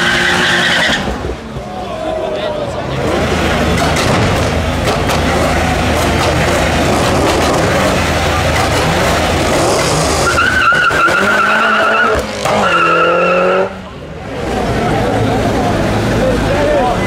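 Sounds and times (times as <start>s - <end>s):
tyres skidding and squealing: 0.0s - 17.0s
car engine revving: 2.8s - 17.0s.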